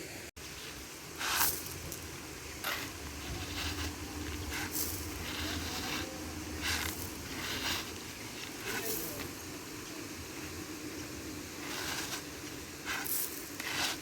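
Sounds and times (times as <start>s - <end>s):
shovel scraping wet gravel: 0.4s - 9.4s, 11.5s - 14.0s.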